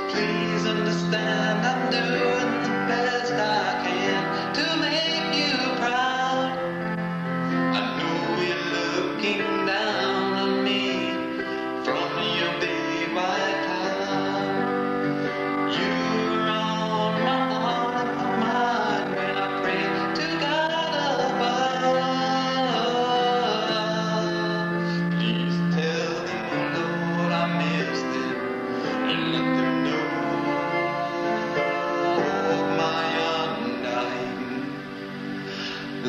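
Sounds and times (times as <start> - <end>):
guitar accompaniment: 0.0 - 36.0
person singing: 0.0 - 36.0.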